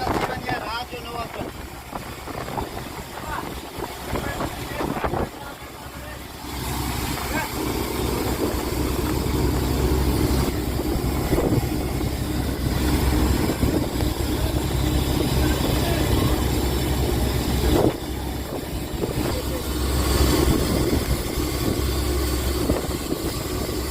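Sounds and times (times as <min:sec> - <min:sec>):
boat engine running: 0:00.0 - 0:23.9.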